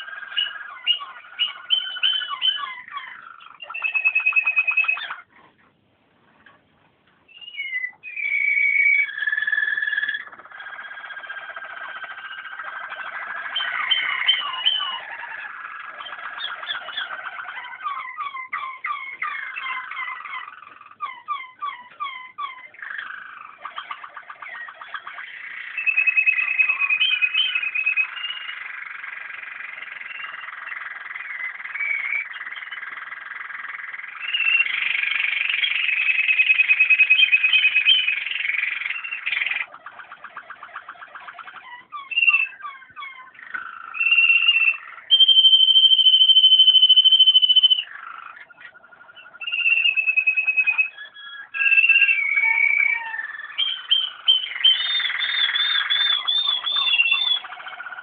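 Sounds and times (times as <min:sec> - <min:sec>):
canary singing trills and whistles: 0:00.0 - 0:05.6, 0:07.2 - 0:58.0.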